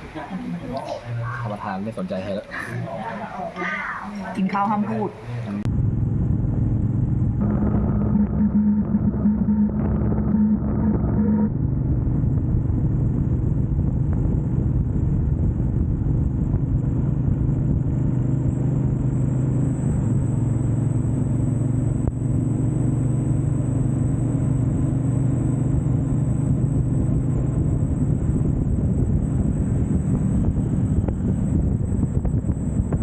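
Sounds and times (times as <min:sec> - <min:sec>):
vehicle engine drone: 0:00.0 - 0:03.5, 0:04.5 - 0:33.0
road and wind noise: 0:00.0 - 0:33.0.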